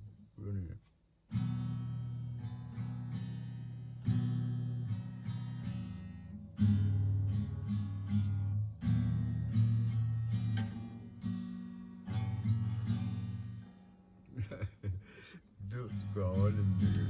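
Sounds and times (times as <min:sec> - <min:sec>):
acoustic guitar strumming and plucking: 0:01.3 - 0:17.0.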